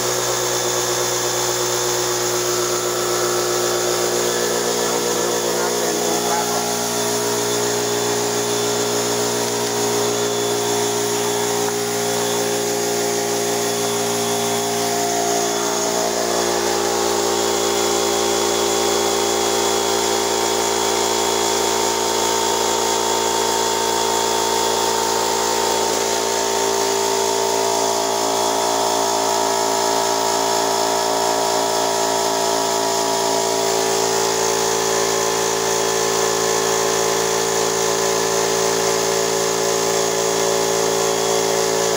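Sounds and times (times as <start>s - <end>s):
air compressor running: 0.0s - 41.9s.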